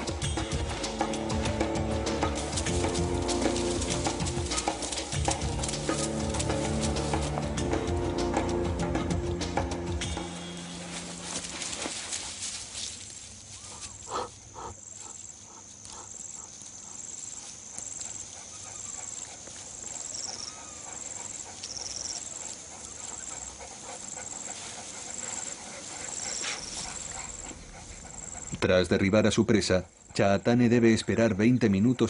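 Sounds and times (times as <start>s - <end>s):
cheetah panting hard: 0.0s - 12.8s, 13.7s - 28.7s.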